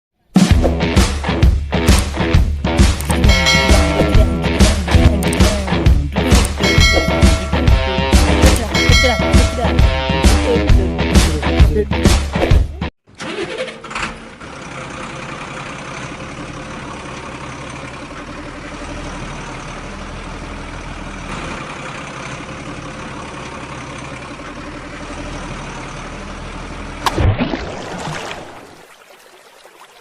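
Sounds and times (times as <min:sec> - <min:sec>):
engine idling: 0:01.7 - 0:12.2, 0:13.1 - 0:27.1.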